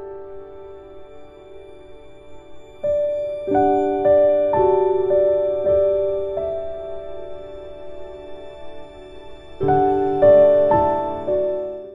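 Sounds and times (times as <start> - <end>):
gentle held chord: 0.0 - 11.9.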